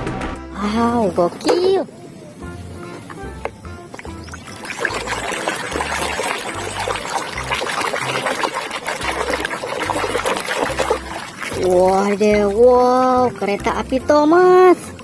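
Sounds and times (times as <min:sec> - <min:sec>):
water splashing over plastic toy: 0:02.7 - 0:15.0.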